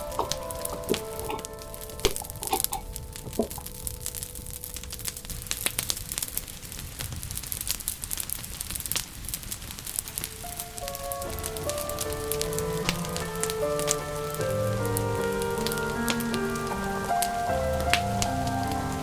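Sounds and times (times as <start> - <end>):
held musical notes: 0.0 - 7.0, 9.9 - 19.0
wood fire crackling: 0.0 - 19.0.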